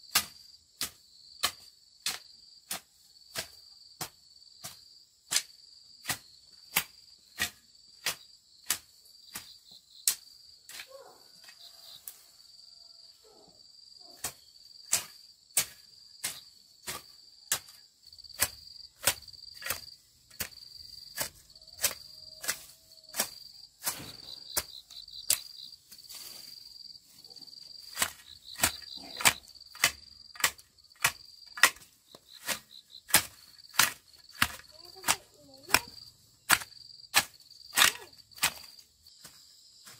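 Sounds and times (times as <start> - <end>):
insects trilling: 0.0 - 39.9
hoe chopping into soil: 0.1 - 11.1, 14.1 - 26.4, 27.9 - 39.9.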